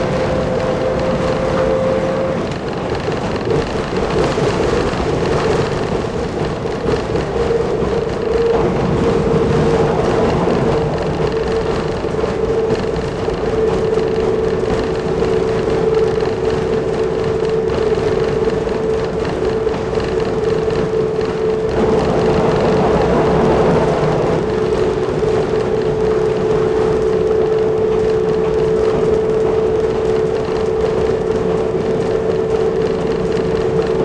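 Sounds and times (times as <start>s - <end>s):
diesel engine drone: 0.0s - 34.0s
wheels clattering on rails: 0.0s - 34.0s.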